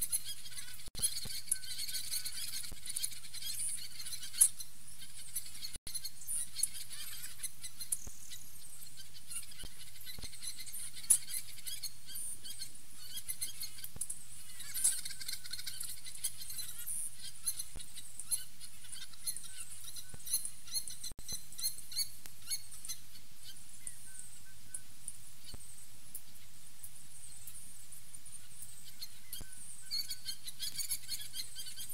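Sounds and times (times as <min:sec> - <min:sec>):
songbirds chirping and trilling: 0:00.0 - 0:31.9
steady background hiss: 0:00.0 - 0:31.9.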